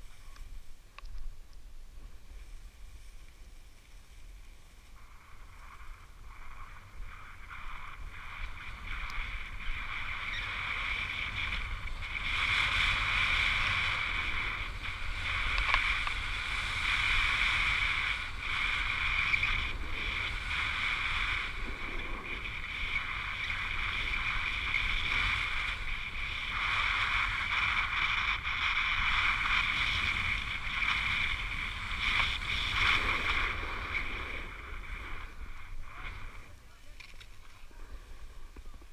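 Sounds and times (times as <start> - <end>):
snow hissing and scraping: 1.9 - 36.7.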